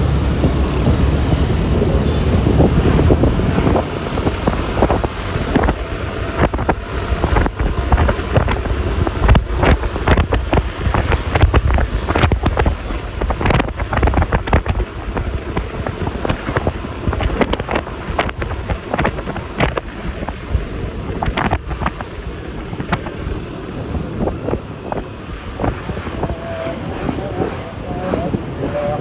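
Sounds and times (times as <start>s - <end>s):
road and tyre noise: 0.0s - 29.0s
wind buffeting microphone: 0.0s - 29.0s.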